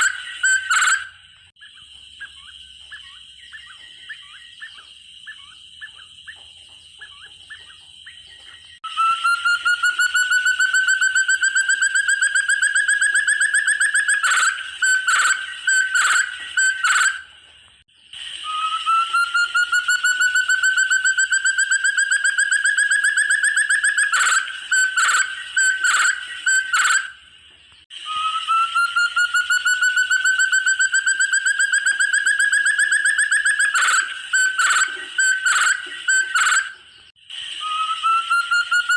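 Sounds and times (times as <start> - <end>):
partridge call: 0.0 - 6.4, 7.0 - 17.3, 18.2 - 27.2, 28.0 - 38.9.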